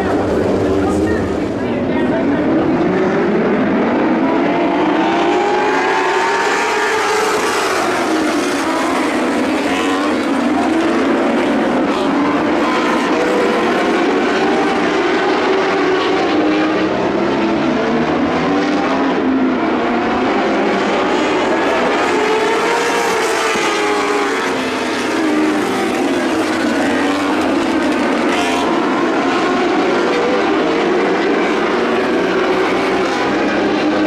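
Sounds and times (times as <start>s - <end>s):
racing car engines at high revs: 0.0s - 34.0s.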